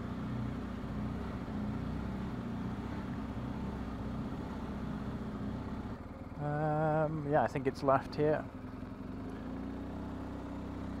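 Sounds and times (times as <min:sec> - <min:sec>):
faint road noise: 0:00.0 - 0:11.0
motorcycle engine running: 0:00.0 - 0:11.0.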